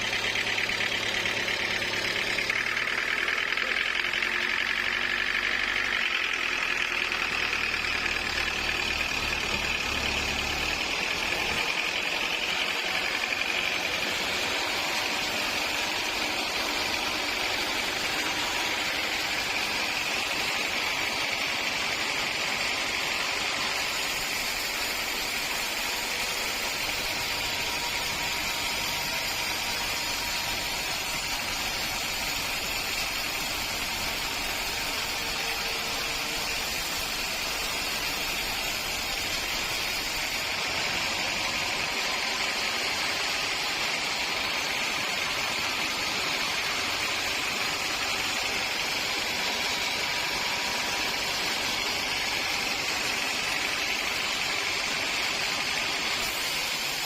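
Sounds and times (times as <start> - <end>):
high saw whine: 0.0 - 57.0
sawmill machinery running: 0.0 - 57.0.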